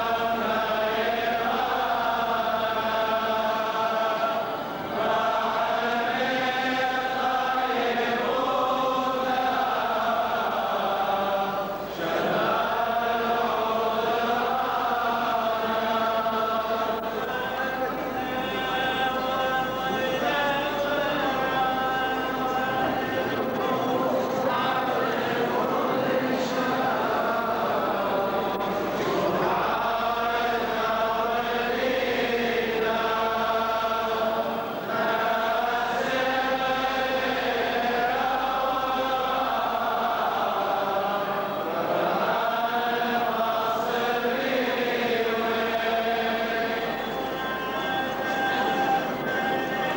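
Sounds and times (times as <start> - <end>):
group chanting a funeral hymn: 0.0 - 49.9.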